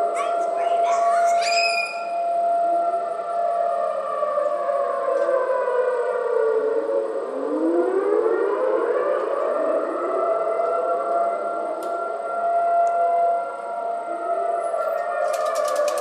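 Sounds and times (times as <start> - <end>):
tornado sirens wailing: 0.0 - 16.0.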